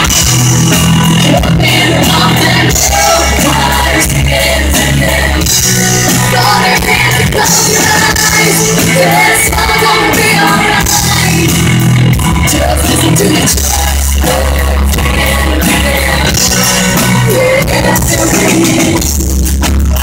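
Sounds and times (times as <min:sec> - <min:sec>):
live band playing: 0:00.0 - 0:20.0
woman singing: 0:01.2 - 0:11.7, 0:12.5 - 0:19.0.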